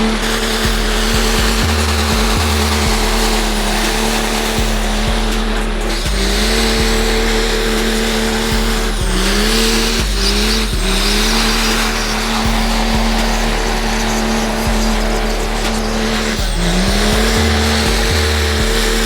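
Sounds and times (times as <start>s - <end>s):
diesel truck engine revving: 0.0s - 19.0s
music track: 0.0s - 19.0s
tyres squealing: 0.0s - 19.0s.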